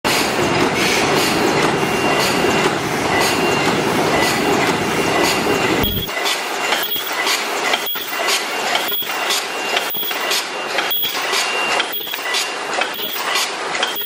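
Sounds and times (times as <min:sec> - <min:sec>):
machine clatter: 0:00.1 - 0:14.0.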